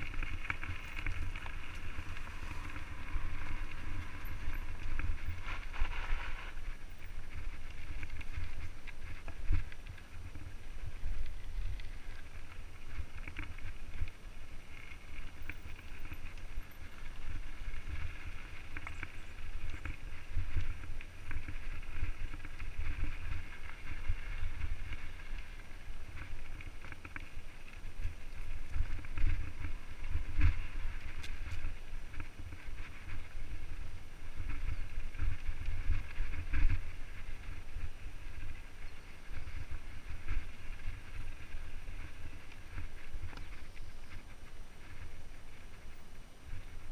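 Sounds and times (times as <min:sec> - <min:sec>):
wind buffeting on microphone: 0:00.0 - 0:46.9.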